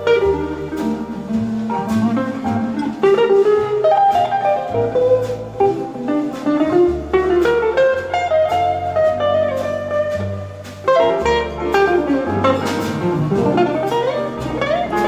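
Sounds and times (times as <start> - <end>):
double bass: 0.0 - 15.0
electric jazz guitar: 0.0 - 15.0.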